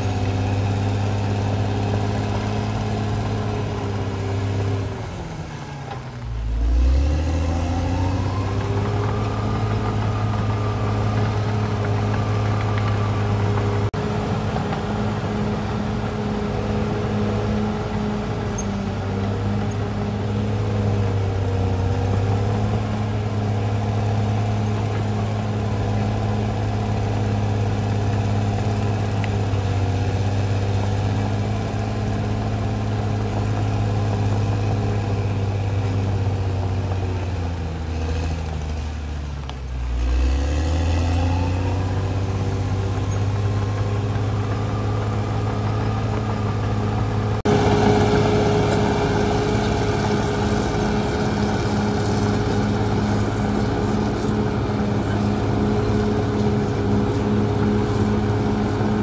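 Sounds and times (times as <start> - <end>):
another bulldozer engine running: 0.0 - 59.0
bulldozer diesel engine running: 0.0 - 59.0.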